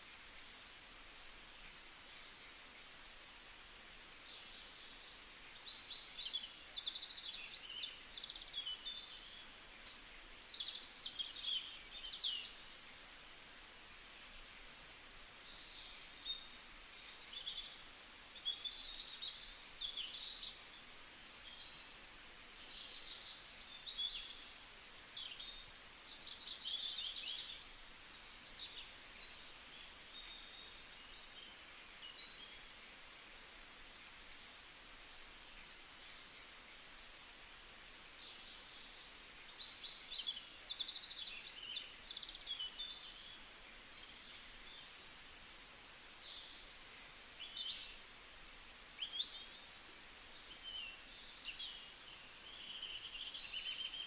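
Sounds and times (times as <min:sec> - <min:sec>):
faint background noise: 0:00.0 - 0:54.0
small birds chirping and trilling: 0:00.0 - 0:54.0.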